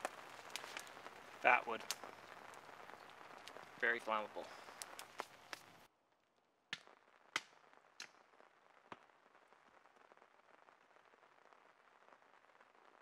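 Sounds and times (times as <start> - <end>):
campfire crackling: 0.0 - 13.0
fire popping: 0.0 - 13.0.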